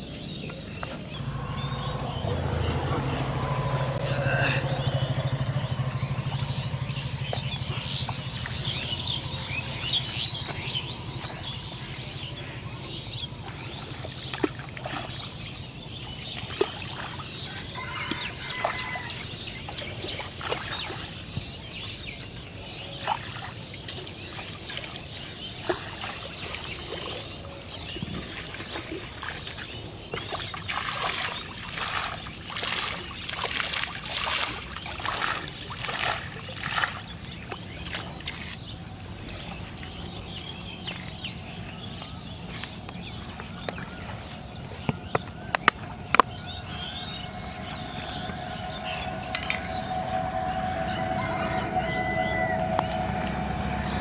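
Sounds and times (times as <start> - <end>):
pond water splashing: 0.0 - 50.9
birds chirping: 0.0 - 54.0
low engine hum: 0.0 - 54.0.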